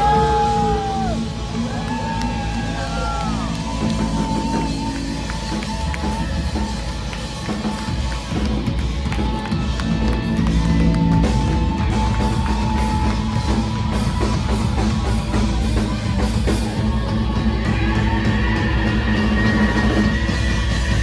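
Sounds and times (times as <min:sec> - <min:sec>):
punk rock band playing live: 0:00.0 - 0:21.0.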